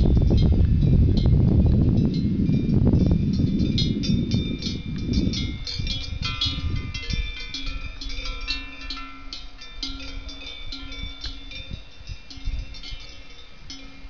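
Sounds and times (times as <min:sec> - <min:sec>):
cowbells clanking: 0:00.0 - 0:14.0
low-pitched bell: 0:00.0 - 0:14.0.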